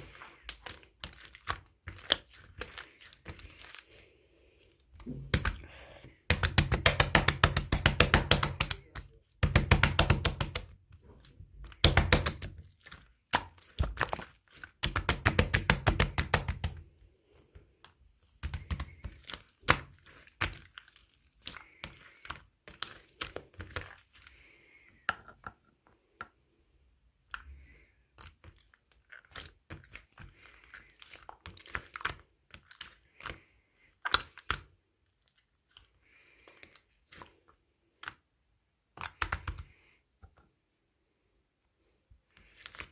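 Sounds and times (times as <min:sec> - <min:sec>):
slime squelching: 0:00.0 - 0:40.3, 0:41.8 - 0:42.9.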